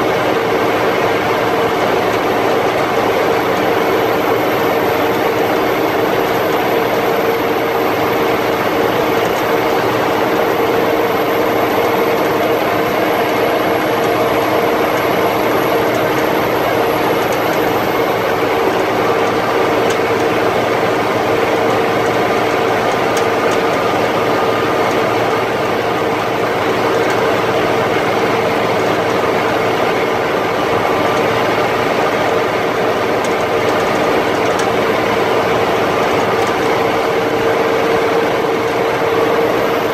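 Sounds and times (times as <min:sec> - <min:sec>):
steady hum: 0:00.0 - 0:39.9
truck engine and road drone: 0:00.0 - 0:39.9.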